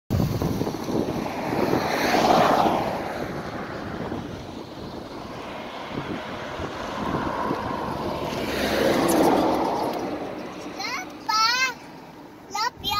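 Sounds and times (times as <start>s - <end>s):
highway traffic: 0.1s - 12.9s
wind buffeting microphone: 0.1s - 12.9s
vehicle passing: 0.3s - 12.5s.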